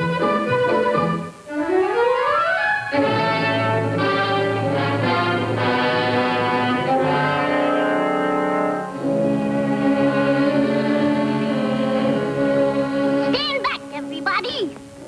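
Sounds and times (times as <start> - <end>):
cartoon score music: 0.0 - 15.0.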